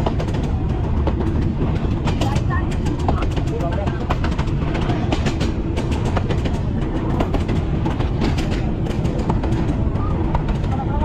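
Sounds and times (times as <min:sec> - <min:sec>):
train rumbling on rails: 0:00.0 - 0:11.0
train wheels clicking and rattling: 0:00.0 - 0:11.0.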